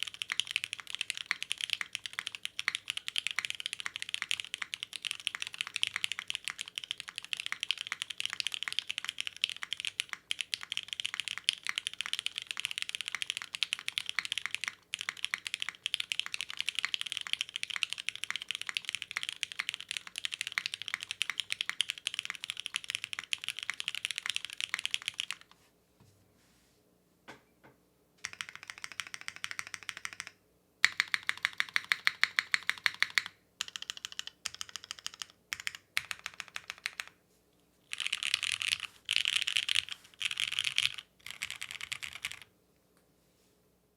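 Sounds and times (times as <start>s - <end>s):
fast mechanical keyboard typing: 0.0s - 25.5s, 28.2s - 37.2s, 37.9s - 42.5s.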